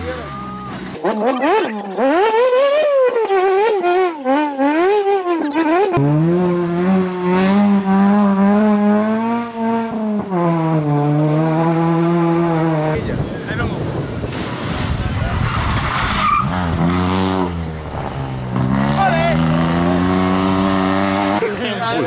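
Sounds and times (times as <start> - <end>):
car engine revving hard: 0.0 - 13.0, 13.9 - 21.4.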